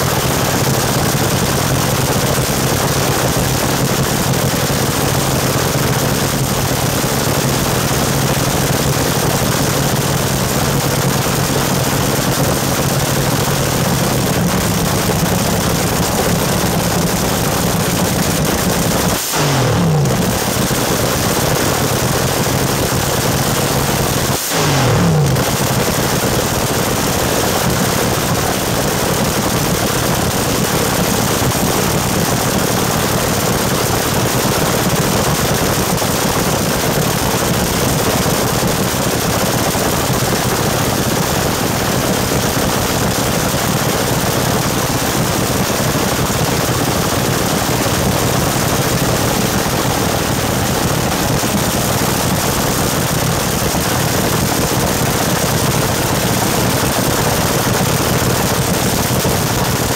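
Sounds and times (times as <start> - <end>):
dragster engine crackling rumble: 0.0 - 59.9.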